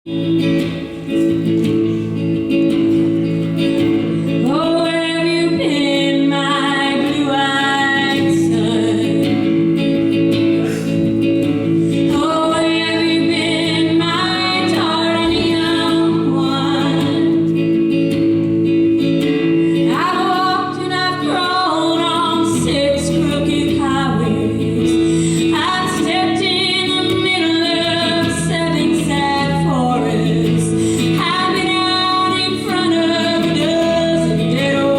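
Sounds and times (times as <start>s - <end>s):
acoustic guitar chords: 0.1s - 34.9s
woman singing folk song: 0.1s - 34.9s.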